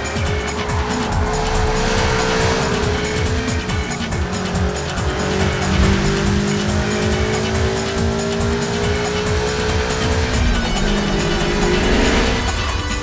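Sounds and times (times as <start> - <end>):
car engine at high revs: 0.0 - 13.0
music with fast beat: 0.0 - 13.0.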